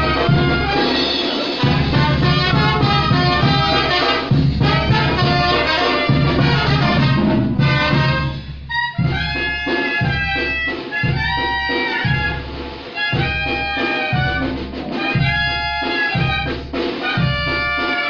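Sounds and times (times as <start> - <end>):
brass band music: 0.0 - 18.0.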